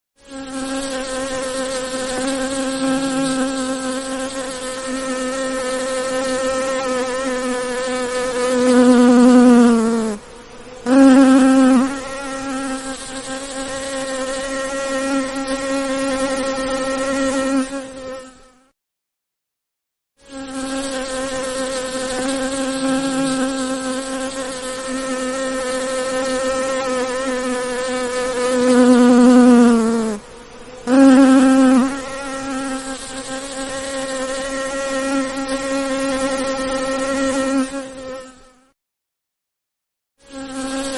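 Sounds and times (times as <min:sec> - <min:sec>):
bee buzzing in flight: 0:00.2 - 0:18.8, 0:20.2 - 0:38.8, 0:40.2 - 0:40.9.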